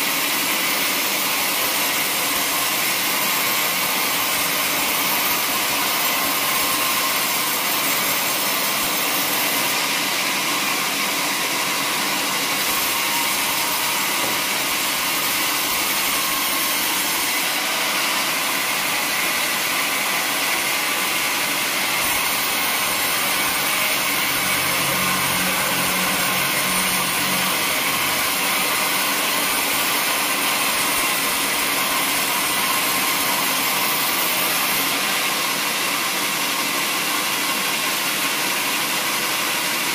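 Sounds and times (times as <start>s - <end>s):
band saw whining through log: 0.0s - 39.9s.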